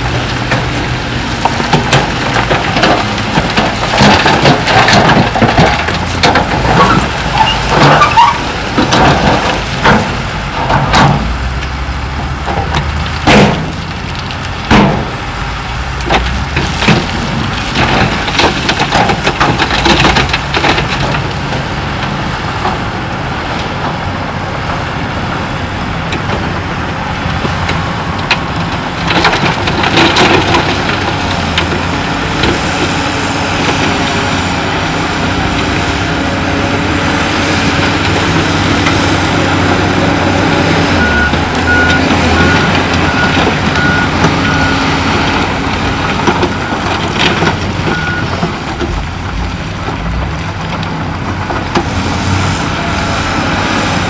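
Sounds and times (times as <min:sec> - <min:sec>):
rocks knocking and clattering: 0:00.0 - 0:22.9, 0:24.6 - 0:54.0
heavy machinery engine drone: 0:00.0 - 0:54.0.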